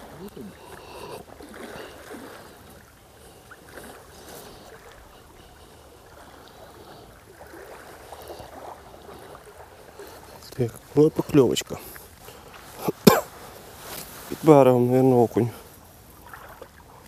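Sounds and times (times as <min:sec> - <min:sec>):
small waves lapping: 0:00.0 - 0:17.0.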